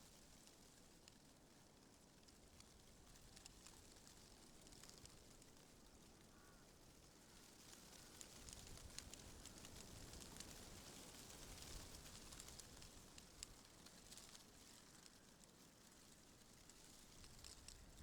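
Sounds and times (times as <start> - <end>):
wind rustling tree leaves: 3.0 - 18.0.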